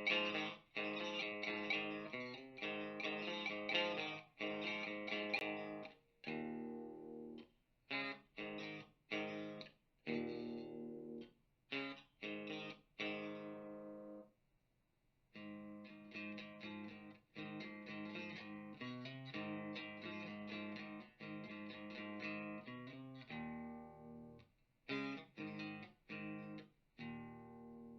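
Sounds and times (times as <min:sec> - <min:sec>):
electric guitar chords: 0:00.0 - 0:14.2, 0:15.4 - 0:27.9.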